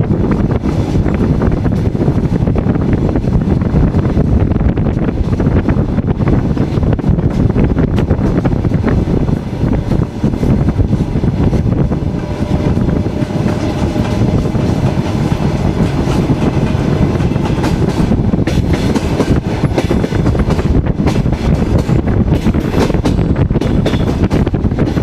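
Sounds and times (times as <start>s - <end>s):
train wheels clattering on rails: 0.0s - 25.0s
wind buffeting microphone: 0.0s - 25.0s.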